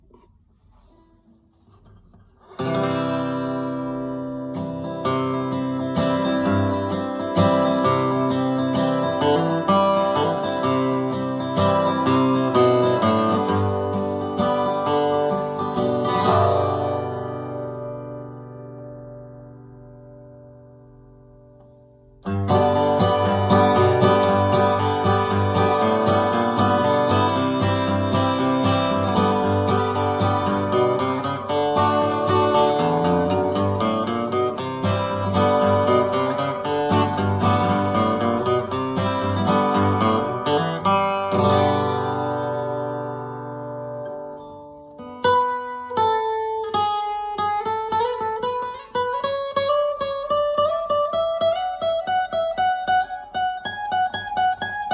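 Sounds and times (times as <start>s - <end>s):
acoustic guitar chords strummed: 0.0s - 54.9s.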